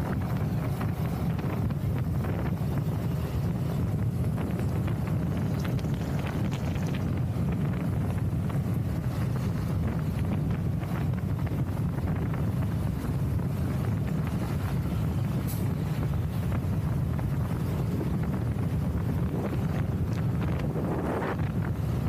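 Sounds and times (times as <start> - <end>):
road and traffic noise: 0.0 - 22.0
wind buffeting microphone: 0.0 - 22.0.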